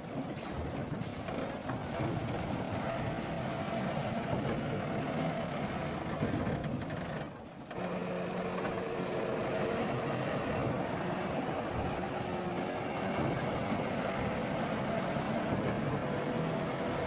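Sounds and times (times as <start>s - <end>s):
heavy machinery diesel engines: 0.0s - 17.0s.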